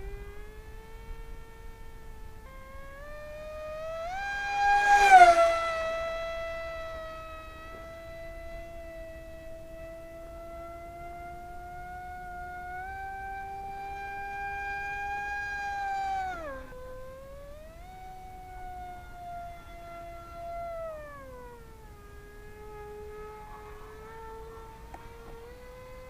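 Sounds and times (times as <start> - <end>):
rc plane motor whining: 0.0 - 26.0.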